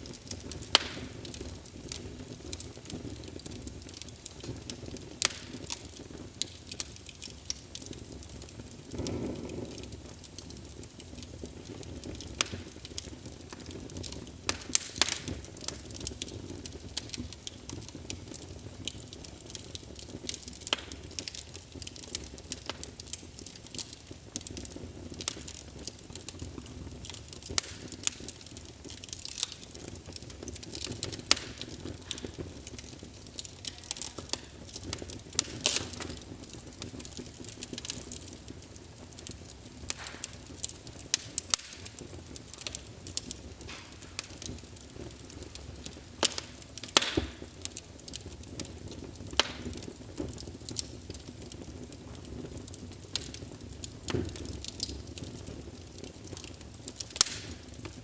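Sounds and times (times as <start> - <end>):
low rumble of flame: 0.0 - 58.0
wood fire crackling and popping: 0.0 - 58.0.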